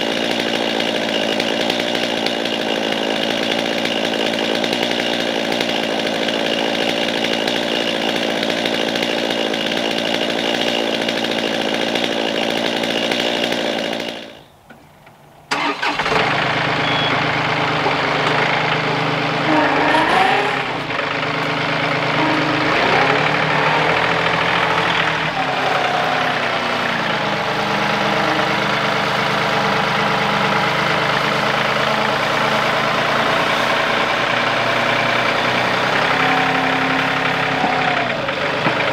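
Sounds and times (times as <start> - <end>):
chainsaw running: 0.0 - 14.6, 15.5 - 38.9
tractor diesel engine: 0.0 - 38.9.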